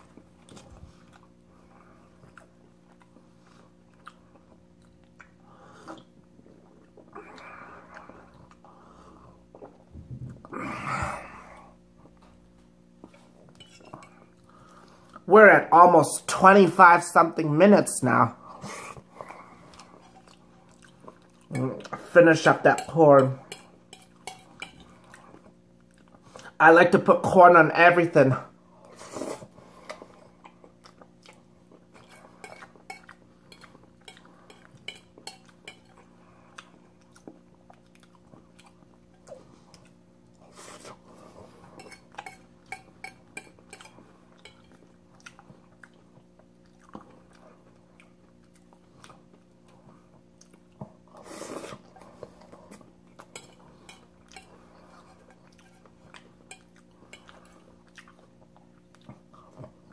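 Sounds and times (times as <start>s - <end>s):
person chewing and slurping: 0.0s - 15.3s, 18.4s - 26.6s, 28.8s - 59.9s
low steady hum: 0.0s - 59.9s.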